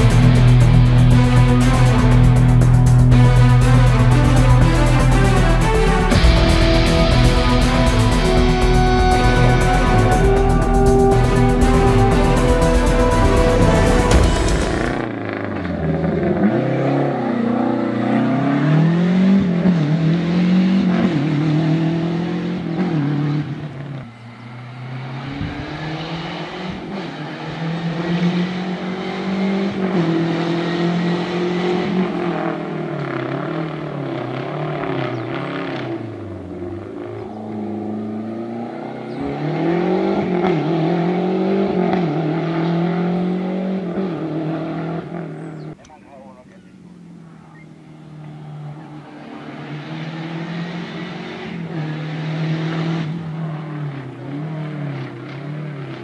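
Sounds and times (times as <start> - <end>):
rally car engine revving: 0.0 - 45.9, 46.5 - 56.0.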